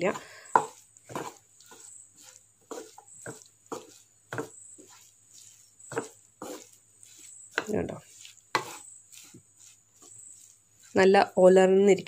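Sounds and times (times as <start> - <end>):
spatula stirring food in a pan: 0.0 - 12.0.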